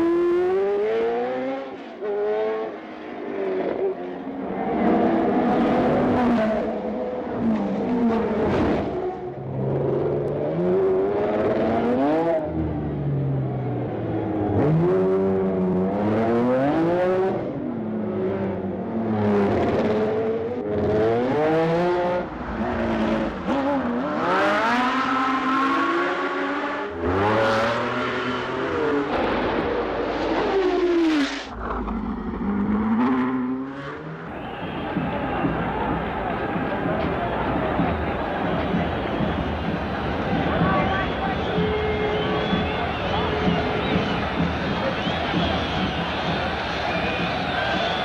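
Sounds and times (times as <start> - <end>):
racing car engines revving: 0.0 - 48.0.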